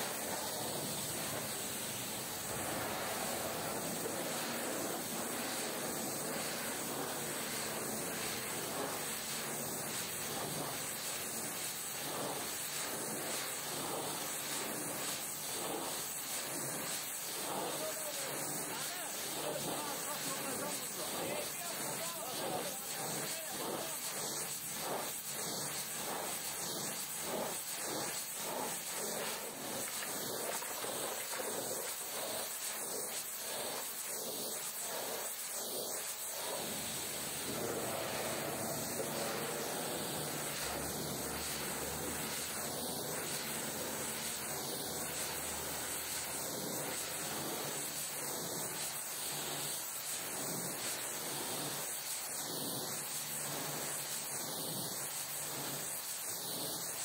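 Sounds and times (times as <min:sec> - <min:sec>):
pressure washer spraying water: 0:00.0 - 0:57.0.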